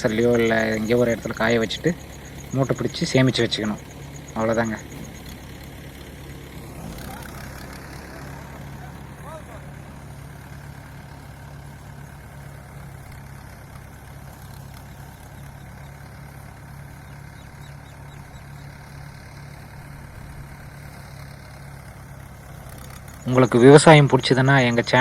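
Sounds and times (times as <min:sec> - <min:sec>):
machinery engine humming: 0:00.0 - 0:25.0.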